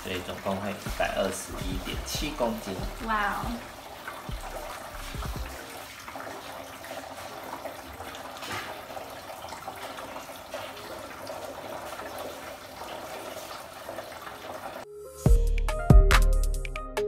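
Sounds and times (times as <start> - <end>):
water trickling through funnel: 0.0 - 14.8.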